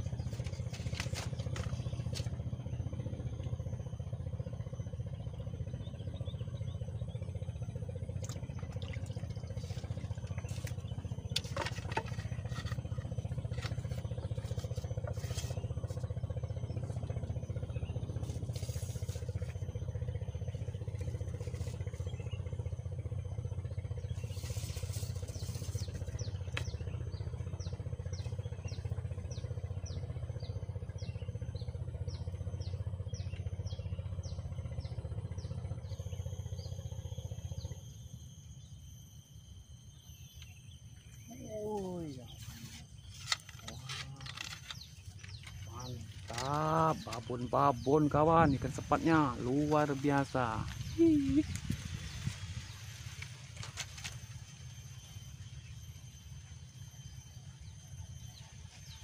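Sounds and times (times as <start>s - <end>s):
low engine drone: 0.0s - 59.0s.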